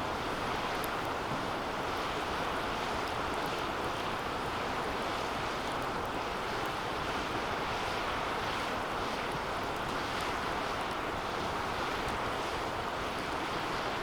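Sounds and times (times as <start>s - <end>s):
wood fire crackles: 0.0s - 14.0s.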